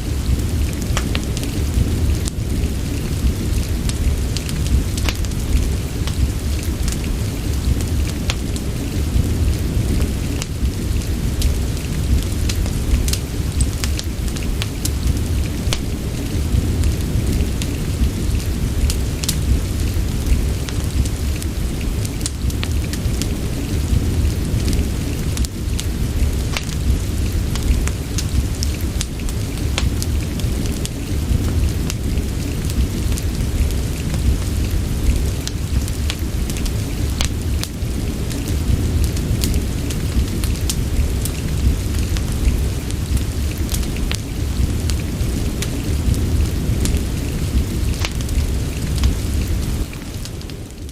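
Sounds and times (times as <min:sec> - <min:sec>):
deep continuous rumble: 0:00.0 - 0:50.9
sharp crackles and ticks: 0:00.0 - 0:50.9
steady rain: 0:00.0 - 0:50.9.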